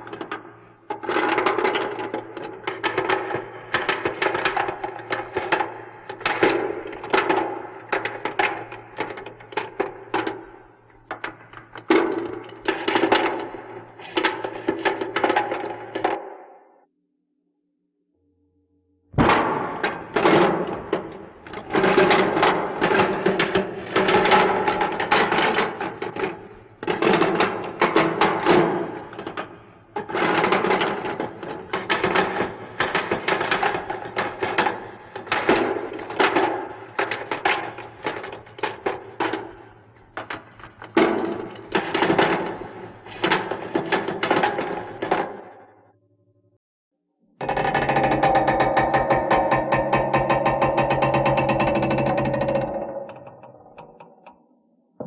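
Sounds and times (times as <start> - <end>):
clatter of knocks and rattles: 0.0 - 16.3, 19.2 - 45.6, 47.4 - 54.4.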